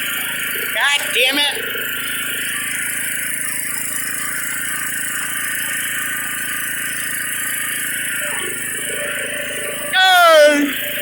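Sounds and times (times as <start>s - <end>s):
riding lawn mower engine running: 0.0s - 11.0s.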